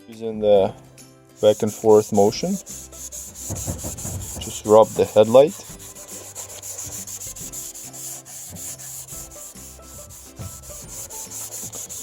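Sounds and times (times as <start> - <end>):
pad scrubbing headlight lens: 1.4 - 12.0.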